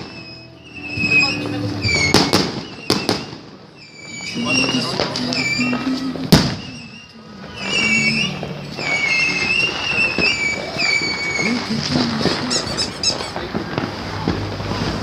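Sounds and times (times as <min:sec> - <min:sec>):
firework bang: 0:00.0 - 0:15.0
fireworks whistling: 0:00.0 - 0:15.0.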